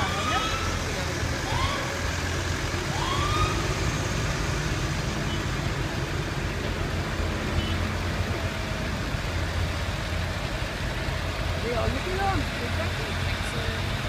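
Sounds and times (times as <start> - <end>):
outdoor noise: 0.0 - 14.0
vehicle engine rumbling: 0.0 - 14.0.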